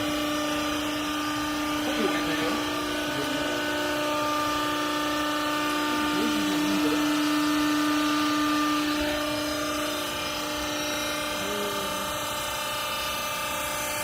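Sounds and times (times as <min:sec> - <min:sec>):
electric motor and pump humming: 0:00.0 - 0:14.0.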